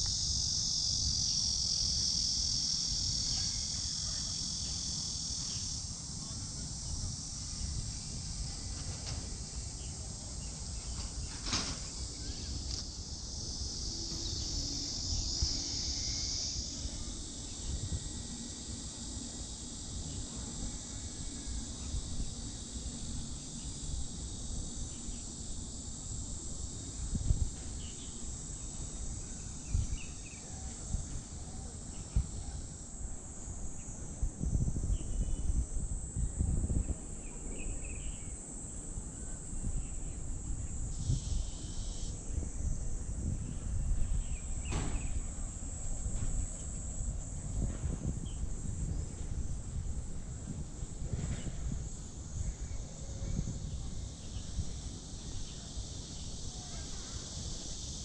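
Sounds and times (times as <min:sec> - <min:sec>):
loud insect buzzing: 0:00.0 - 0:31.0, 0:39.4 - 0:58.0
insects chorus: 0:00.0 - 0:58.0.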